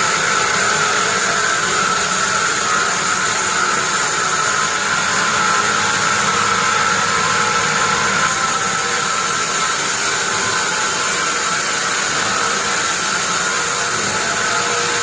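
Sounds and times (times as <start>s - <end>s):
bandsaw running with whine: 0.0s - 15.0s.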